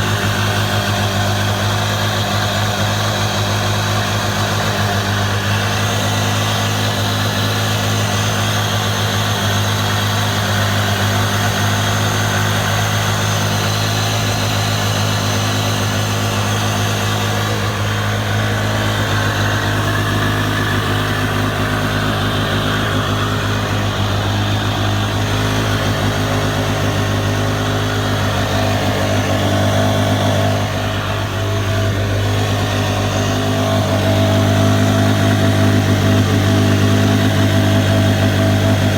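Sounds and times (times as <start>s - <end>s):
watercraft engine running: 0.0s - 38.9s.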